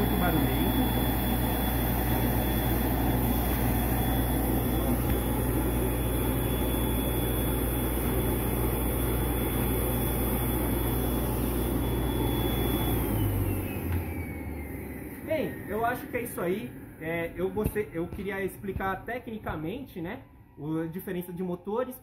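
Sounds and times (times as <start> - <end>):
blower spinning down: 0.0 - 18.8
blower motor hum and whine: 0.0 - 22.0.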